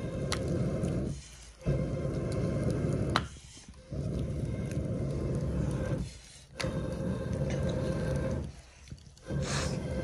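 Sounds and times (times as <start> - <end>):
rolling pin rolling dough: 0.0 - 10.0.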